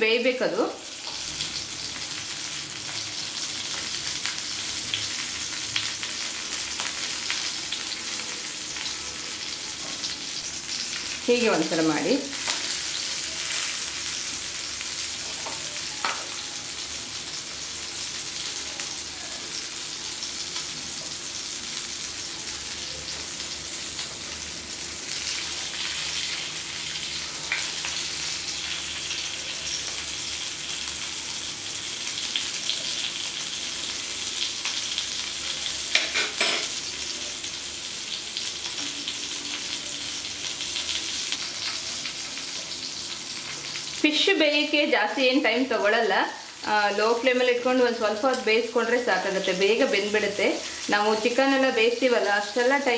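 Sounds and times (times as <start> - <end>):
fish sizzling in oil: 0.0 - 52.9.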